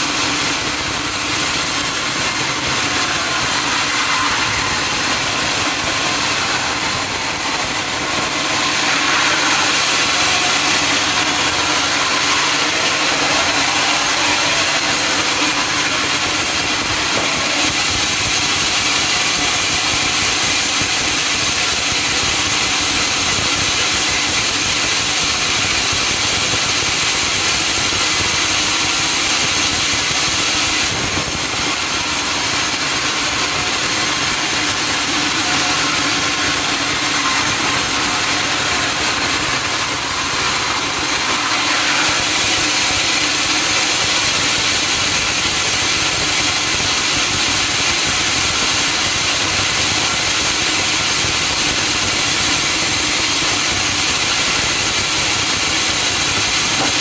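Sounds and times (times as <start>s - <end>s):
saw cutting through log: 0.0s - 57.0s.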